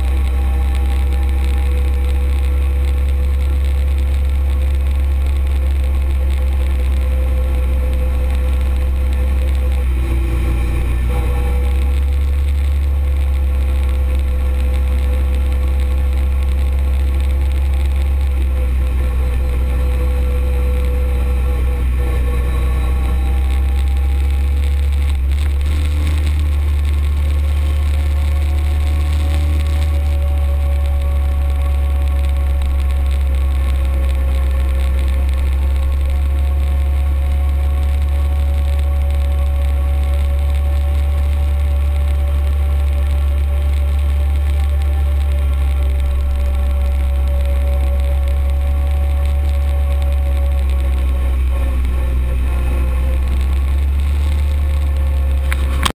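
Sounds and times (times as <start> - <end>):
utility vehicle engine running: 0.0 - 56.0.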